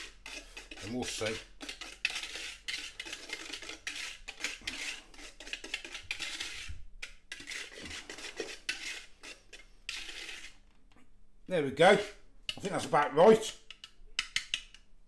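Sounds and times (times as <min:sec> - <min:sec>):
whisk scraping against bowl: 0:00.0 - 0:10.6, 0:11.8 - 0:14.8.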